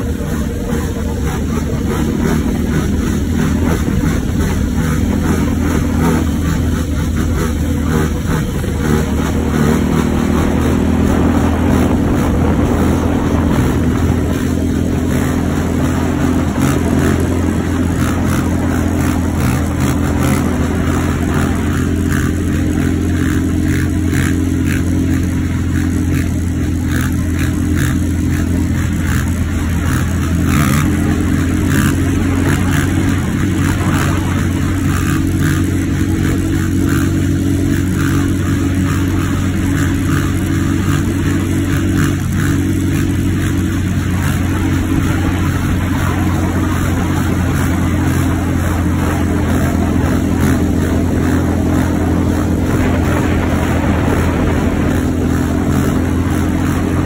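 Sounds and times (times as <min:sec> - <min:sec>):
quad engine running loudly: 0:00.0 - 0:57.0.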